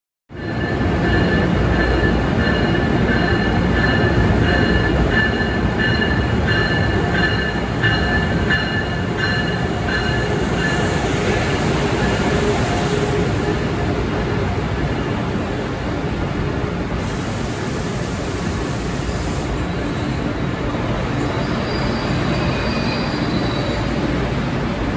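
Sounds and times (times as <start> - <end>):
train wheels rumbling on rails: 0.3 - 24.9.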